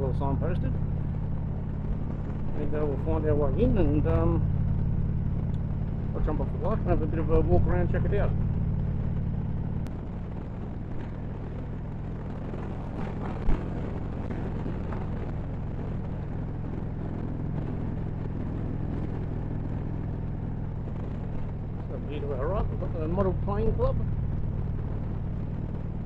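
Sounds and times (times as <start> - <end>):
motorcycle engine cruising: 0.0 - 26.0
wind and road noise: 0.0 - 26.0.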